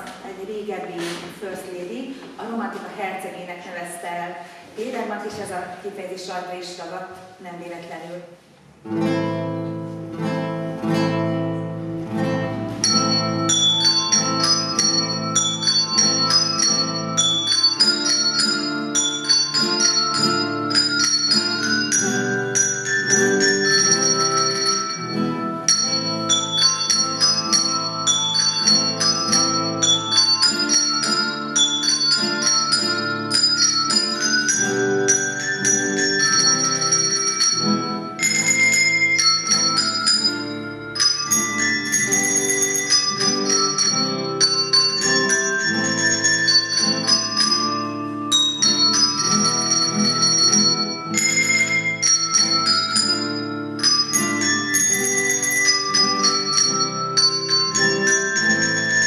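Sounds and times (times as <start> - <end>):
handbell ensemble playing: 9.1 - 59.0.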